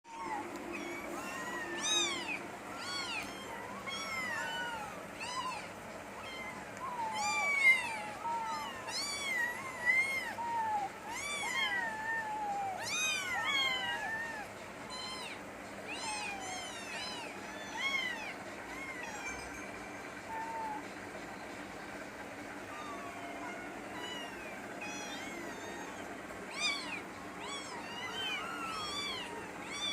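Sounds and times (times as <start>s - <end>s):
cat meowing: 0.1s - 19.7s, 22.7s - 29.9s.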